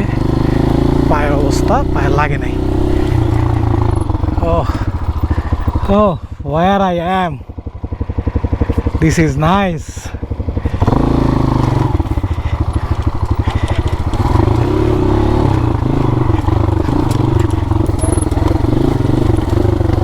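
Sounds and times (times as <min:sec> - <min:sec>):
dirt bike engine revving: 0:00.0 - 0:06.2, 0:07.0 - 0:20.0.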